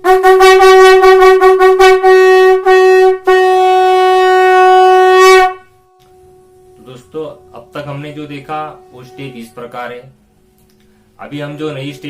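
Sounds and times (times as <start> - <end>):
conch shell blown: 0.0 - 11.2.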